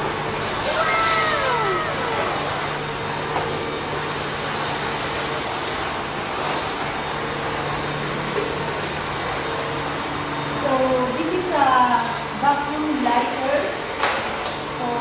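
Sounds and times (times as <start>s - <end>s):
stick vacuum cleaner running: 0.0s - 15.0s.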